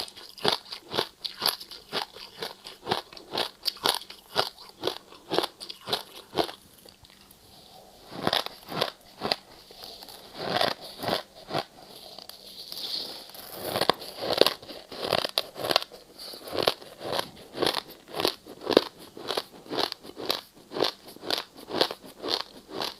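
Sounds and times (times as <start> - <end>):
ice crunching while chewed: 0.0 - 7.4, 8.1 - 22.9.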